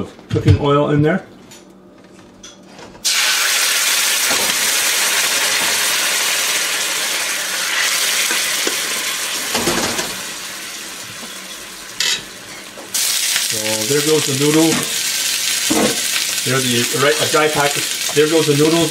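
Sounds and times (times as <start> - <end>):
liquid sizzling in hot wok: 3.0 - 18.9.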